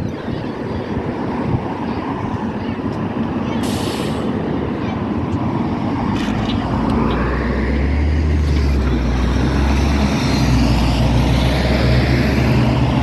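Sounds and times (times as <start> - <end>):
bus diesel engine: 0.0 - 13.0.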